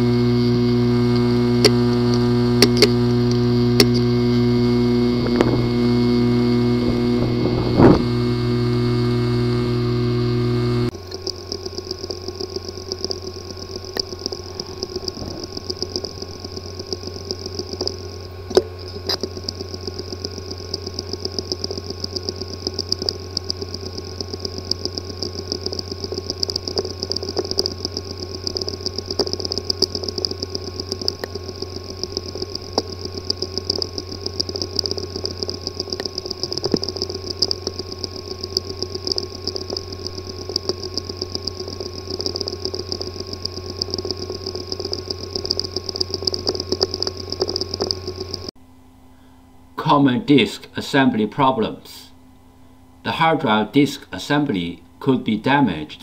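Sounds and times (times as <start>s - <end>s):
hard disk buzzing and ticking: 0.0s - 56.0s.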